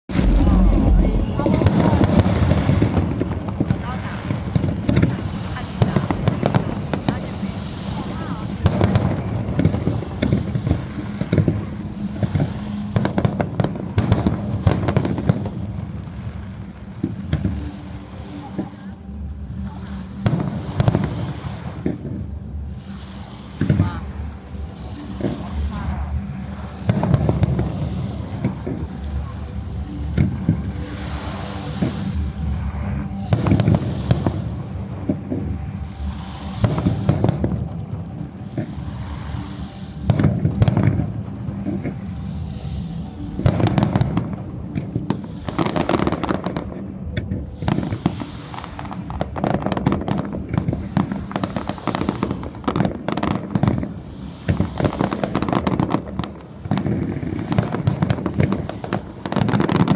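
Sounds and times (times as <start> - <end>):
steady low hum: 0.0 - 51.2
low background rumble: 0.0 - 59.9
fireworks bangs and crackles: 0.1 - 18.9, 19.6 - 24.1, 24.8 - 59.9.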